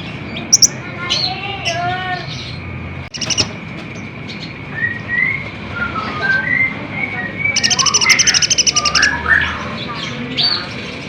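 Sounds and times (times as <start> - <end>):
sunbird song: 0.0 - 11.0.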